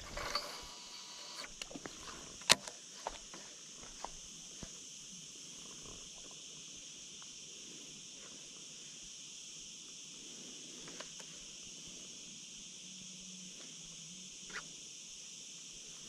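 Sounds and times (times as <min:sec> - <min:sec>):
faint high-pitched hiss: 0:00.0 - 0:16.0.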